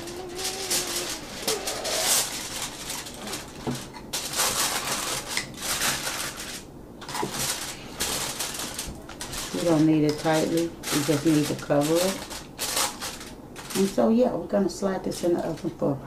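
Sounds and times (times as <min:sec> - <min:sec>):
aluminium foil crinkling: 0:00.0 - 0:15.9.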